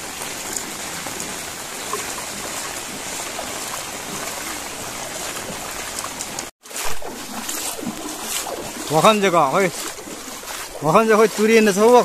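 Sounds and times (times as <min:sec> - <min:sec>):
steady rain: 0:00.0 - 0:06.5, 0:07.4 - 0:12.0
floodwater running: 0:00.0 - 0:12.0.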